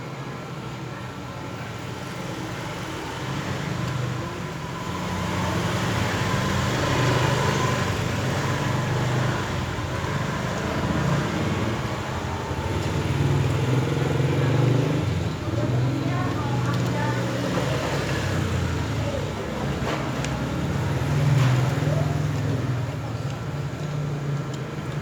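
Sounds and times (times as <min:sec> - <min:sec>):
road traffic hum: 0:00.0 - 0:25.0.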